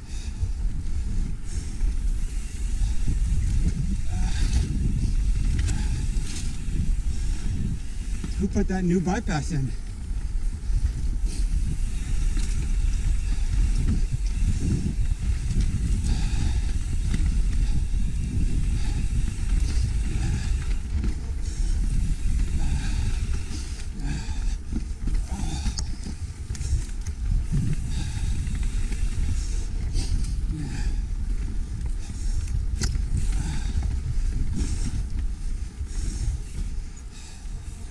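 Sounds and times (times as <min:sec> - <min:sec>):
bike rattling: 0:00.0 - 0:37.9
bike tyres rolling over dirt: 0:00.0 - 0:37.9
wind buffeting microphone: 0:00.0 - 0:37.9.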